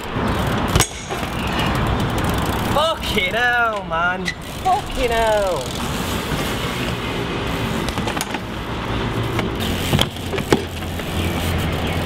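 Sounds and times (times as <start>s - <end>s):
bike hitting concrete: 0.0s - 12.0s
city traffic: 0.0s - 12.0s.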